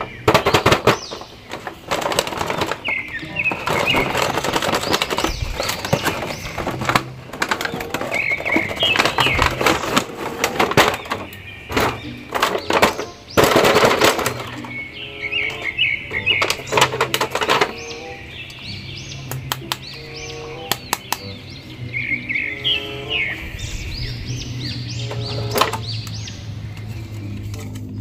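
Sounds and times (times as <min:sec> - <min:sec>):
plastic packaging crackling: 0:00.0 - 0:18.3, 0:22.6 - 0:28.0
background music: 0:00.0 - 0:28.0.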